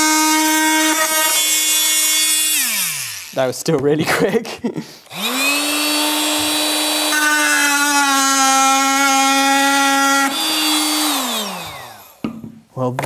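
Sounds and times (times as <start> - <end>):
oscillating tool cutting wood: 0.0 - 3.5, 5.1 - 12.2.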